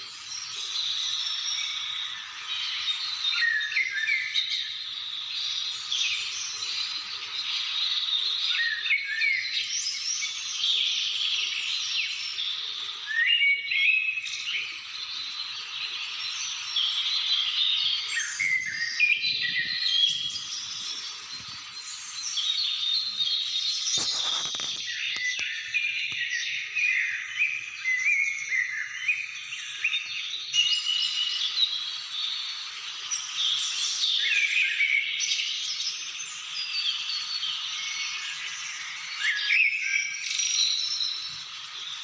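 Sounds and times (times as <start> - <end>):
wild birds chirping and whistling: 0.0 - 42.0.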